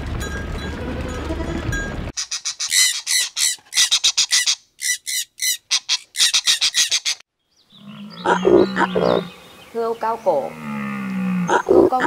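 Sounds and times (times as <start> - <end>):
birds squawking: 2.2 - 12.0.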